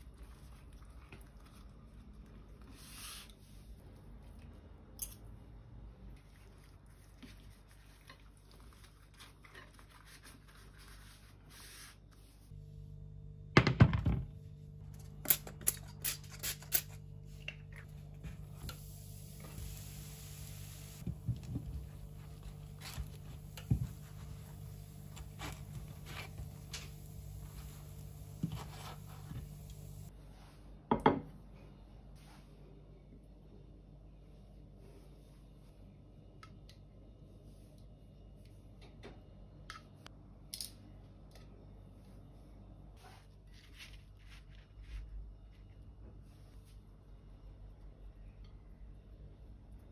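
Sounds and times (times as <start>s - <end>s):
low stovetop hum: 0.0s - 49.9s.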